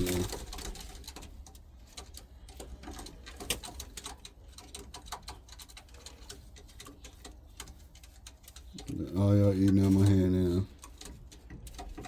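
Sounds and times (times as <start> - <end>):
pigeons pecking at seed: 0.0 - 12.0.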